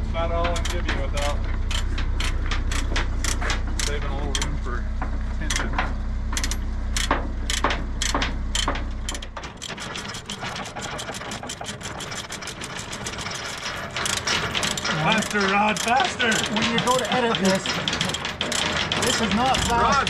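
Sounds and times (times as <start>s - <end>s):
steady low hum: 0.0s - 20.0s
ratchet strap pawl clicking: 1.7s - 4.6s, 6.4s - 20.0s.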